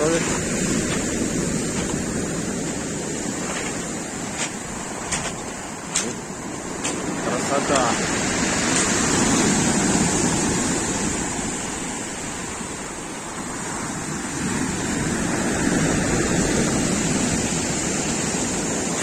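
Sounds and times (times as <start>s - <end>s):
surf waves breaking on beach: 0.0s - 19.0s.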